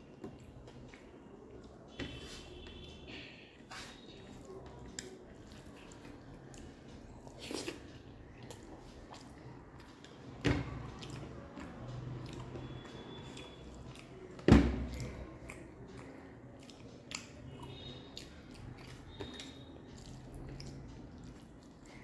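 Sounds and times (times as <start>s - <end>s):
wet squishing of food by hand: 0.0s - 22.0s
mouth chewing: 2.5s - 22.0s.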